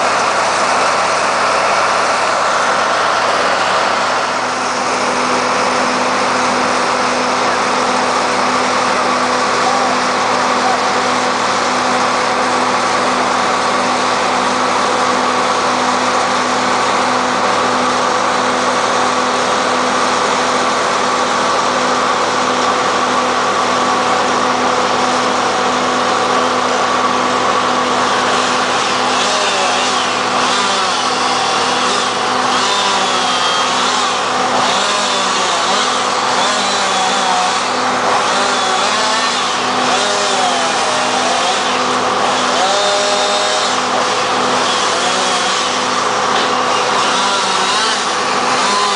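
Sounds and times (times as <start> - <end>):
heavy equipment engine running: 0.0 - 48.9.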